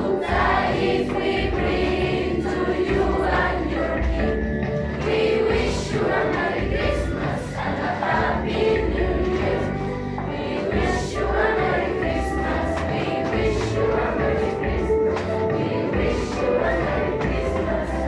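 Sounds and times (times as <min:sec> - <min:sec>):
choir singing a carol: 0:00.0 - 0:18.0
instrumental accompaniment: 0:00.0 - 0:18.0
percussion hits: 0:00.0 - 0:18.0.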